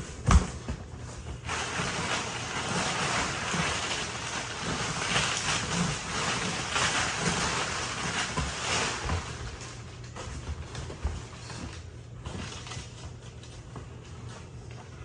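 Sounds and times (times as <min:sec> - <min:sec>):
packaging rustling and crinkling: 0:00.3 - 0:15.0.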